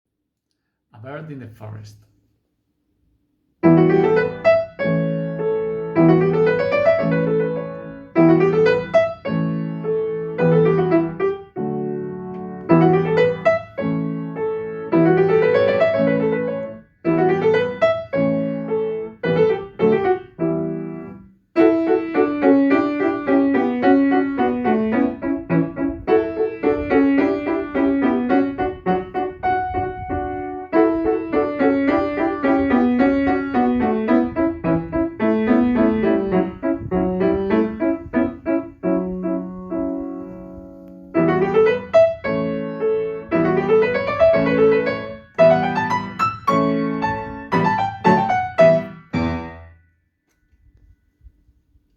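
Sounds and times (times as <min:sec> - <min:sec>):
gentle solo piano: 0:03.6 - 0:49.8.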